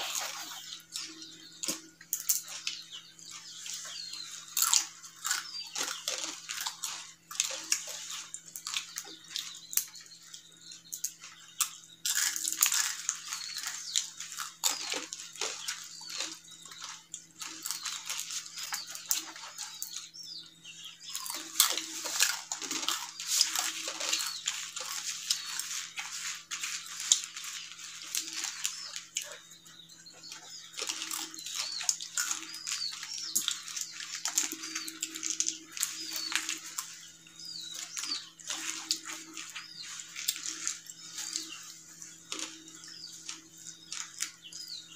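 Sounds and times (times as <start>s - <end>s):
crunching crisp fried snack: 0.0s - 44.9s
fingers crinkling on foil plates: 0.0s - 44.9s.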